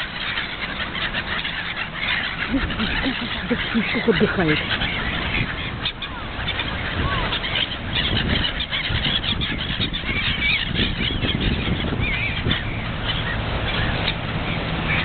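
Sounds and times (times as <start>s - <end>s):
gulls calling: 0.0s - 15.0s
steady low rumble: 0.0s - 15.0s.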